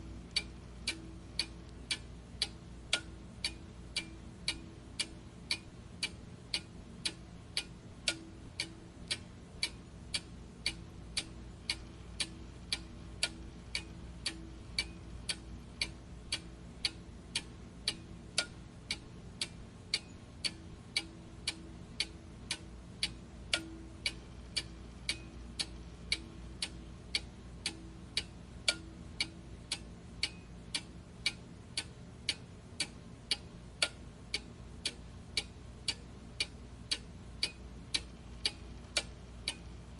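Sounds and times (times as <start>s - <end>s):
faint low hum: 0.0s - 39.9s
steady ticking: 0.0s - 39.9s.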